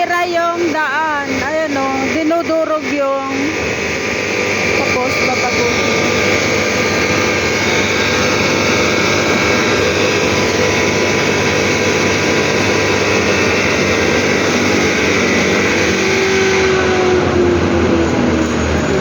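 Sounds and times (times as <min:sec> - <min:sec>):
loud machinery engine drone: 0:00.0 - 0:19.0
steady high whine: 0:00.0 - 0:19.0.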